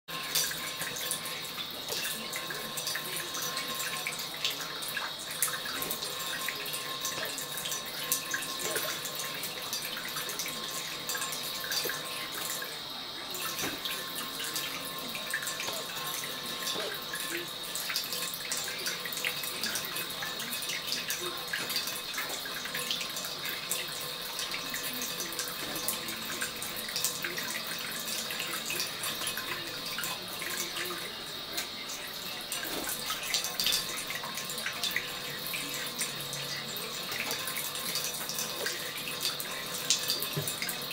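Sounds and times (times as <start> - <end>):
tap water splashing onto plate: 0.1 - 40.9
water drips: 0.1 - 40.9.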